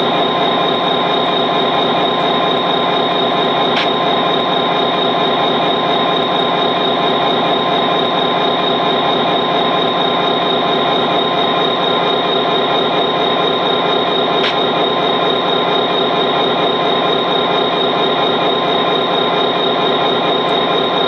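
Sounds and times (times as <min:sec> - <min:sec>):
constant high-pitched tone: 0:00.0 - 0:21.0
train running: 0:00.0 - 0:21.0.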